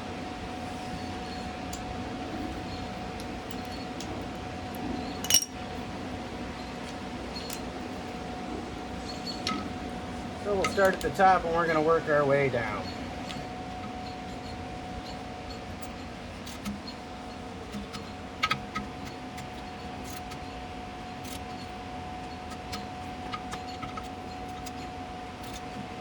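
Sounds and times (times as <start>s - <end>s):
steady hum with high tone: 0.0s - 26.0s.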